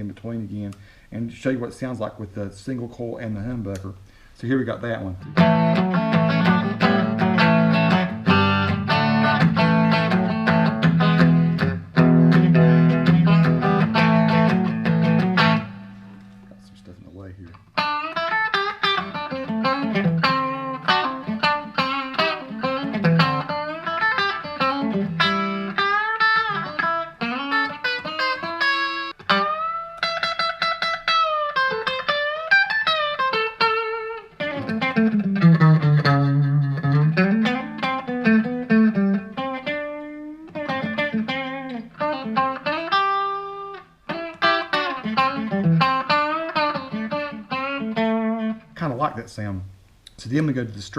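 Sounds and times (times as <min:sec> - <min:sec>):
electric guitar blues lead: 0:04.0 - 0:48.8.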